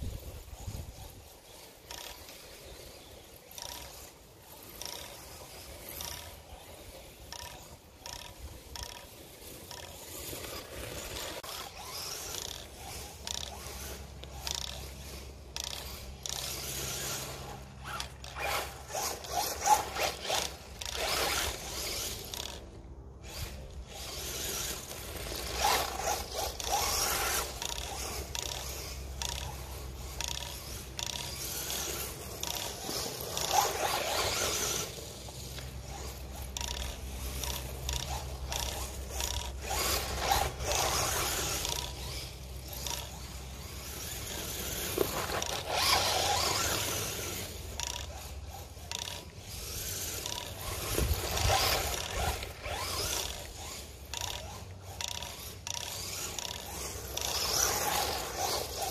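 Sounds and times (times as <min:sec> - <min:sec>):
electric motor surging: 0:03.5 - 0:58.9.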